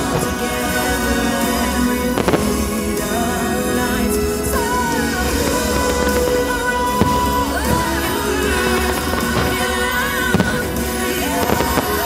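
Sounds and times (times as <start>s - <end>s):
firework bangs: 0.0s - 12.0s
loud soundtrack music: 0.0s - 12.0s.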